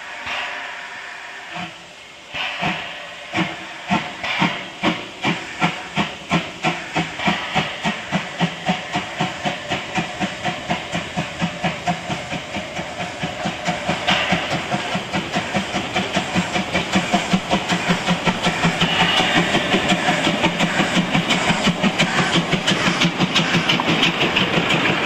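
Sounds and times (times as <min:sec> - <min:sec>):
steam hissing: 0:00.0 - 0:25.0
steam locomotive exhaust beats: 0:00.0 - 0:25.0.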